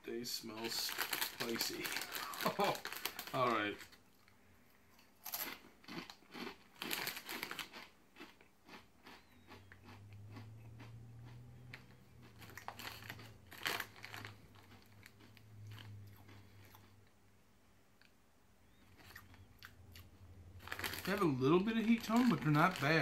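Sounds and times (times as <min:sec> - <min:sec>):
crunching tortilla chips: 0:00.6 - 0:04.0, 0:05.2 - 0:17.1, 0:18.8 - 0:23.0.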